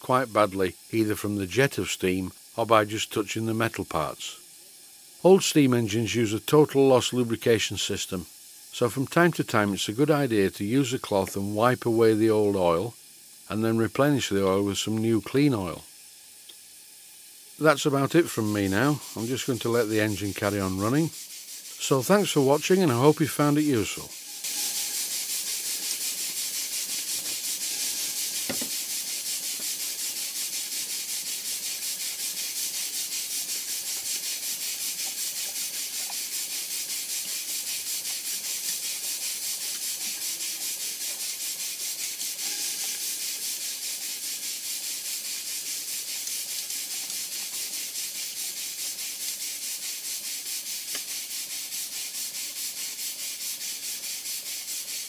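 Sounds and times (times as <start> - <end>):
model steam engine hissing: 0.0 - 55.0.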